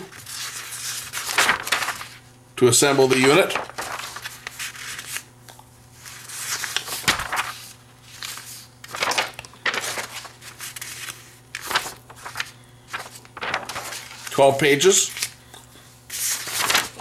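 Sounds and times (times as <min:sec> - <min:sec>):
paper pages rustling: 0:00.1 - 0:05.3, 0:06.0 - 0:15.4, 0:16.1 - 0:17.0.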